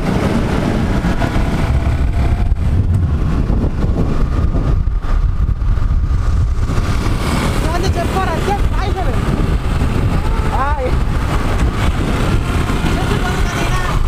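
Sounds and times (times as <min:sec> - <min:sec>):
motorcycle engine rumbling: 0:00.0 - 0:14.0
wind noise on microphone: 0:00.0 - 0:14.0.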